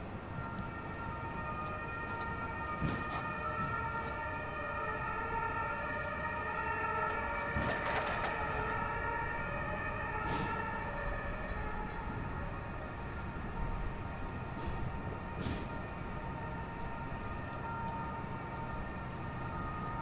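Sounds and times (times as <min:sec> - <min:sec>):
rail vehicle high-pitched whine: 0:00.0 - 0:20.0.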